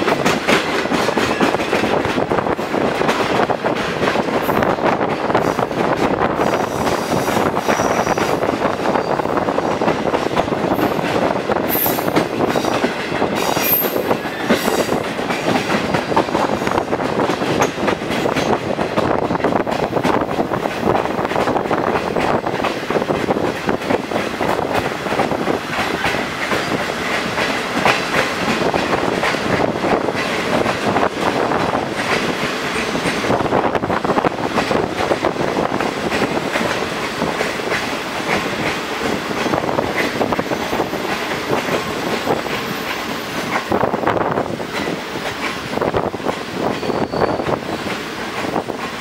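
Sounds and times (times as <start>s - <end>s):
train wheels clacking: 0.0s - 49.0s.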